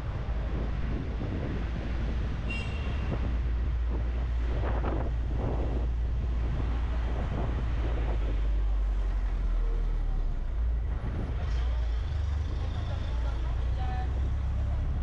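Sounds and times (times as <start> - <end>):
city street traffic: 0.0 - 15.0
wind rumbling on microphone: 0.0 - 15.0.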